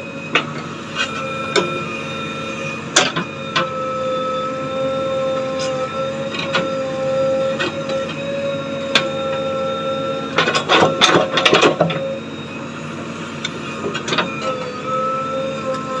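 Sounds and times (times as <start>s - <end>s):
backhoe engine whining: 0.0s - 16.0s.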